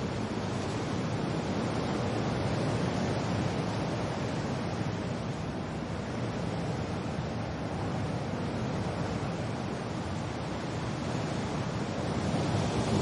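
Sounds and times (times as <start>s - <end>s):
wind and rain rushing: 0.0s - 13.0s.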